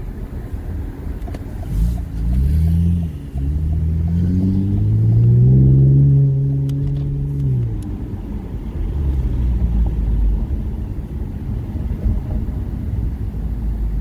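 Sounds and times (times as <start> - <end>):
car engine accelerating hard: 1.5 - 14.0.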